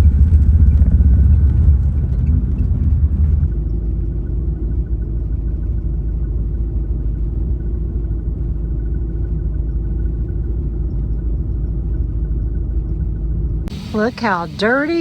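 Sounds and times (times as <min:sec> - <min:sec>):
faint steady hum: 0:00.0 - 0:15.0
vehicle engine rumble from inside: 0:00.0 - 0:15.0.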